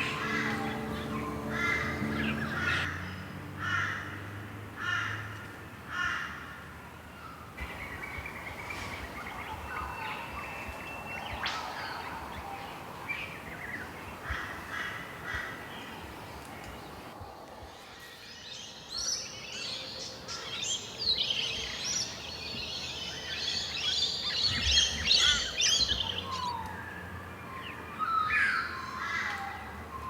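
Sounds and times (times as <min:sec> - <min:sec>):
birds calling: 0:00.0 - 0:03.9, 0:07.2 - 0:30.0.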